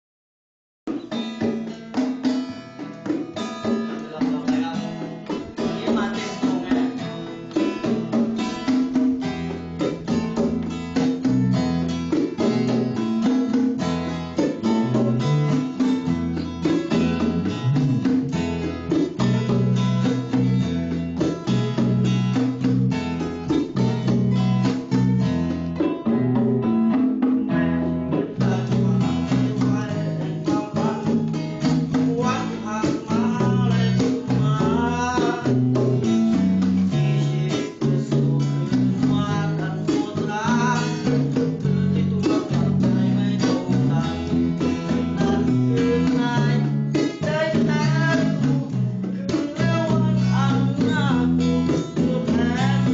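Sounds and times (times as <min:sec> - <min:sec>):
guitar-led song: 0:00.9 - 0:52.9.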